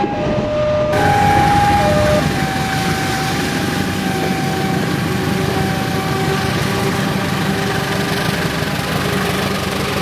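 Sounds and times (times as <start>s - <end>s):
locomotive engine rumble: 0.0s - 10.0s.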